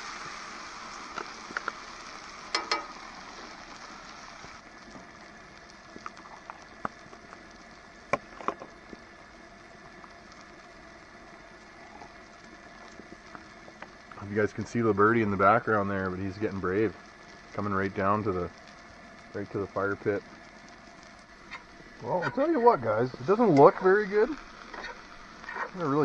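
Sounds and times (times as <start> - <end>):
pot hissing on camp stove: 0.0 - 26.0.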